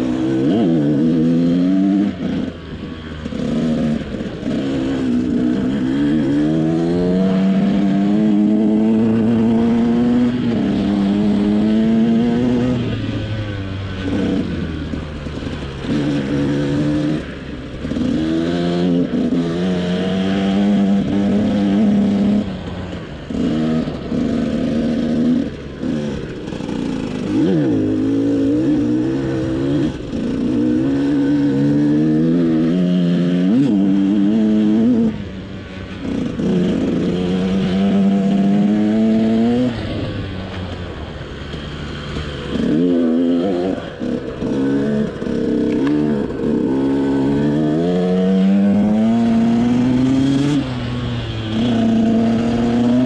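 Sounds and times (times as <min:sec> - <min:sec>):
motocross engine revving: 0:00.0 - 0:02.6, 0:03.2 - 0:22.7, 0:23.3 - 0:35.2, 0:35.9 - 0:40.3, 0:41.4 - 0:53.0.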